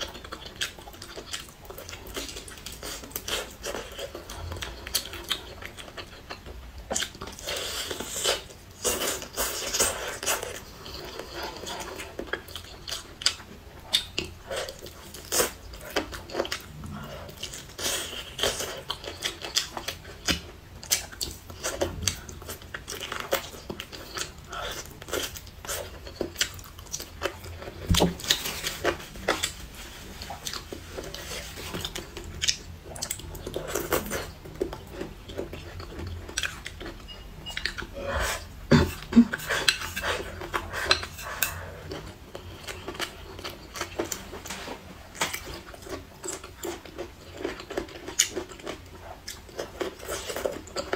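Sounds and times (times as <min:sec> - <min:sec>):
chewing and biting: 0:00.0 - 0:44.6, 0:45.2 - 0:50.9.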